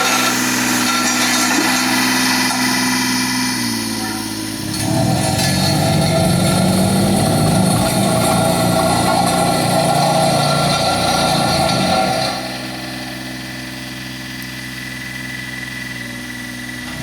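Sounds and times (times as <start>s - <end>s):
diesel roller engine running: 0.0s - 17.0s.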